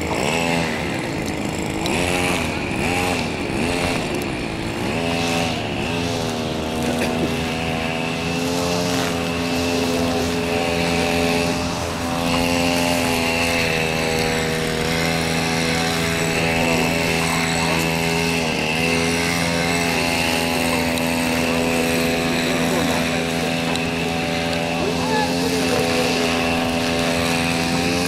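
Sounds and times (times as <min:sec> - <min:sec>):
steady engine drone: 0:00.0 - 0:28.0.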